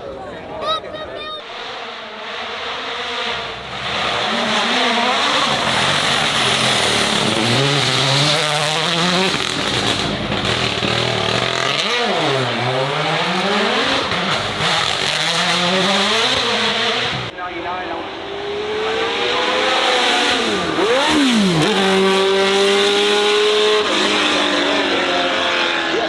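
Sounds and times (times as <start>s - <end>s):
racing car engine revving: 1.4s - 26.0s.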